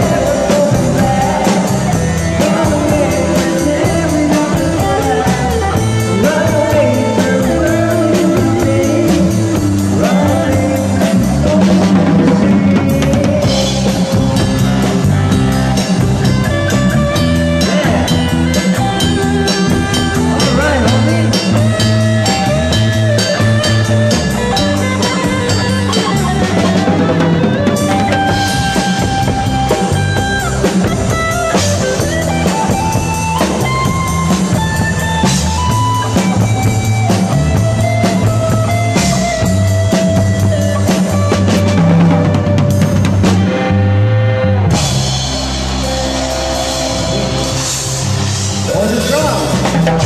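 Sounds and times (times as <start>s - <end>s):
drum kit with cymbals: 0.0s - 43.7s, 44.7s - 50.0s
electric guitar: 0.0s - 50.0s
sustained melody notes: 0.0s - 50.0s.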